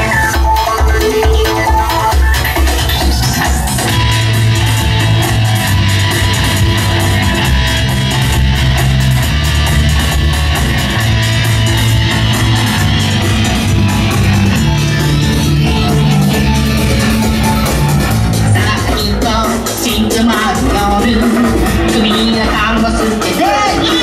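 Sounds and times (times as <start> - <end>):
bass guitar: 0.0 - 24.0
electric guitar: 0.0 - 24.0
fast drum beat: 0.0 - 24.0.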